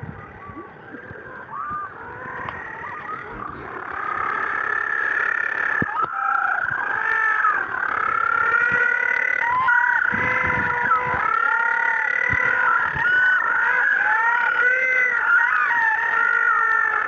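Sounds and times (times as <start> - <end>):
penguins calling: 0.0 - 17.0.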